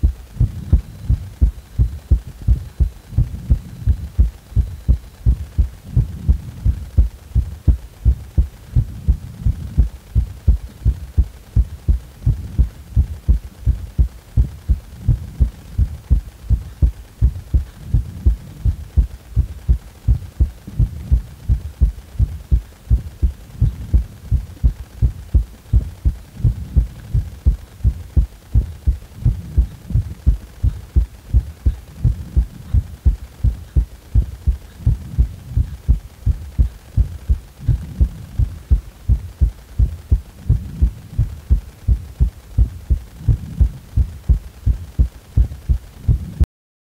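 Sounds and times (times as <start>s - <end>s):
heartbeat thumps: 0.0s - 46.5s.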